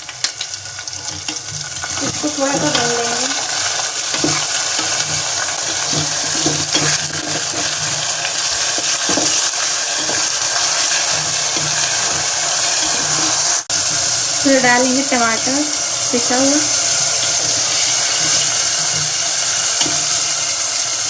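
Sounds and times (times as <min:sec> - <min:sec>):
paste sizzling in hot oil: 0:00.0 - 0:21.0
spoon scraping a pan: 0:00.2 - 0:13.7, 0:16.6 - 0:20.9.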